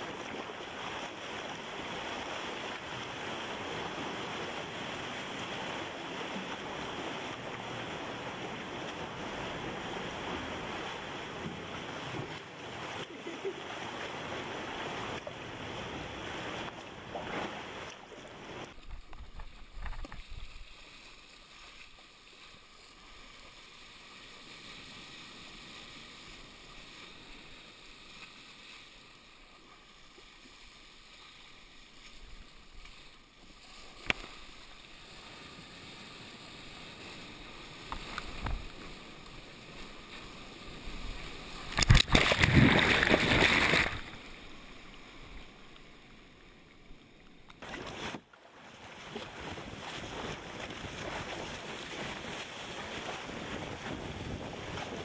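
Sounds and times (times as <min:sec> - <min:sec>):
surf washing along hull: 0:00.0 - 0:55.0
water sloshing around kayak: 0:00.0 - 0:55.0.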